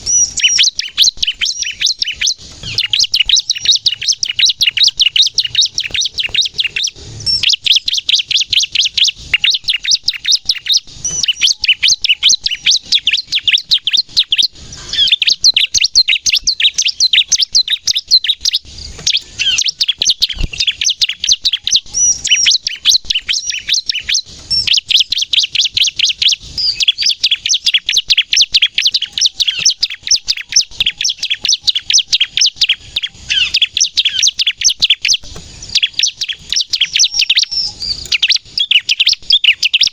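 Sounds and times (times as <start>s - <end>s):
bird singing rapid sharp chirps: 0.0s - 39.9s.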